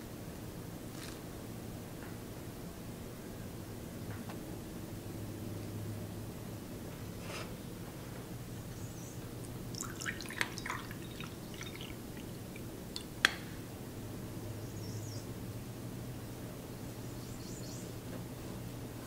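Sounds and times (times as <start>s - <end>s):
steady low hum: 1.5s - 19.0s.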